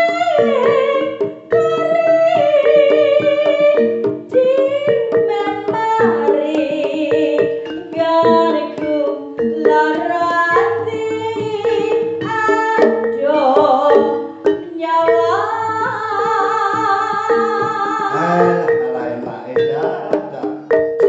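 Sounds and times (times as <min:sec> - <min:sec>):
woman singing: 0:00.0 - 0:18.8
hand drums: 0:00.0 - 0:21.0
struck metal gamelan notes: 0:00.0 - 0:21.0.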